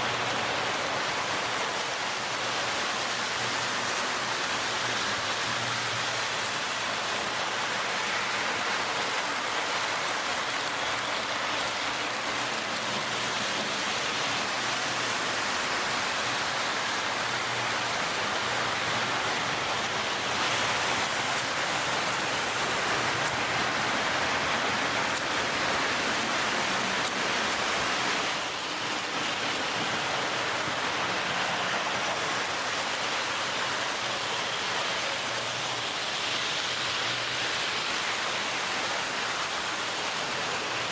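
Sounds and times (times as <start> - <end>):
toy train running on track: 0.0 - 40.9.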